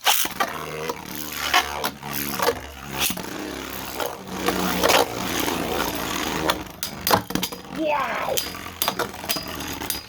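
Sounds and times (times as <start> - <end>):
spinning tops whirring: 1.0 - 10.0.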